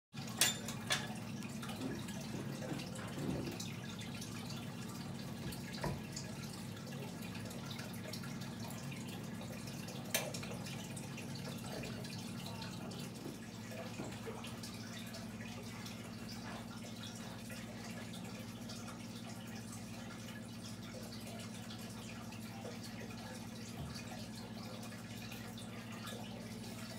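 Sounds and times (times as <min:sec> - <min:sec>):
aquarium filter humming: 0:00.2 - 0:26.9
water trickling and dripping: 0:00.2 - 0:26.9.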